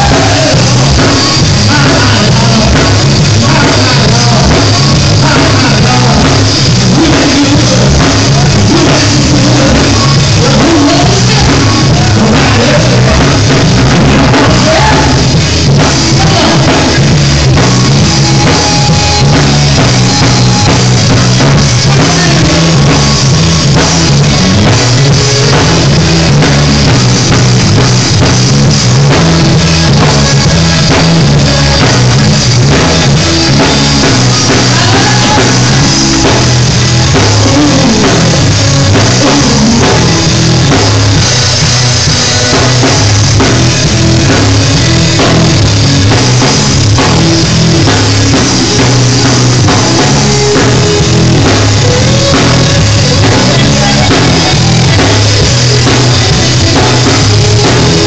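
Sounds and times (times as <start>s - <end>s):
drum kit steady beat: 0.0s - 58.0s
gospel band playing: 0.0s - 58.0s.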